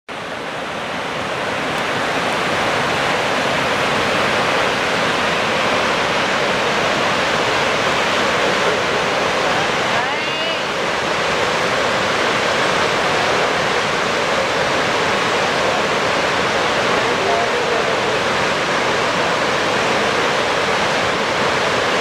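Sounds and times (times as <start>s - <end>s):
whitewater rushing: 0.1s - 22.0s.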